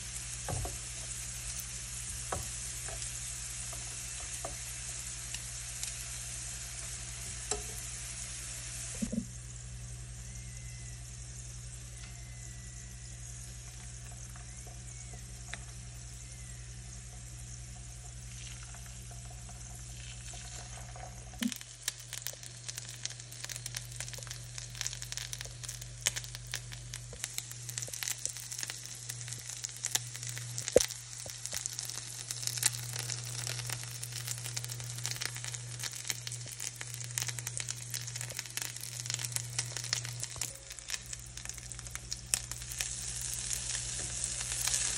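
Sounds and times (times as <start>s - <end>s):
food sizzling in oil: 0.0s - 44.9s
low hum: 0.2s - 44.9s.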